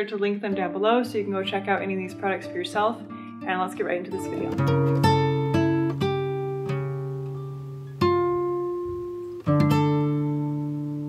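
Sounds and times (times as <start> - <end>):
acoustic guitar chords: 0.5 - 11.0.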